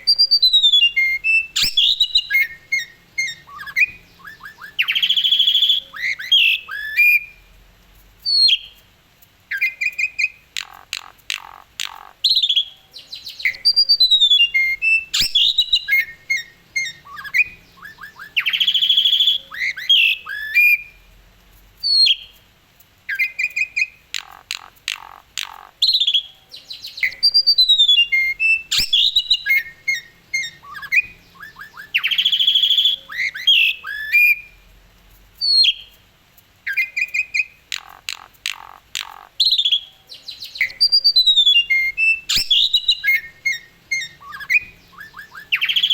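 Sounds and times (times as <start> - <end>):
starling singing whistles and trills: 0.0 - 7.5, 8.2 - 8.8, 9.5 - 21.0, 21.8 - 22.4, 23.0 - 34.6, 35.4 - 36.0, 36.6 - 45.9.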